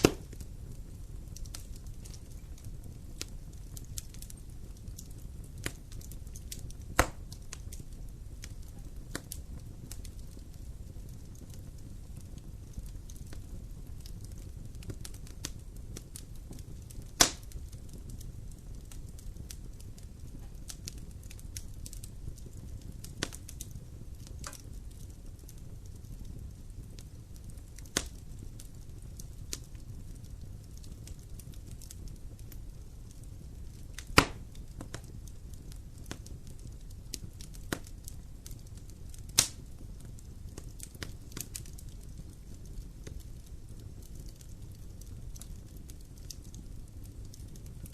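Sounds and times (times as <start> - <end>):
fire crackling and popping: 0.0 - 47.9
fire rumbling: 0.0 - 47.9.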